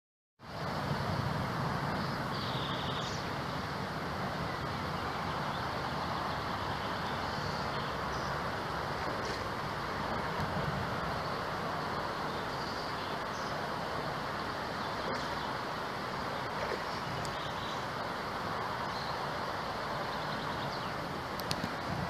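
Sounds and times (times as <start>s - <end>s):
river current rushing: 0.4s - 22.0s.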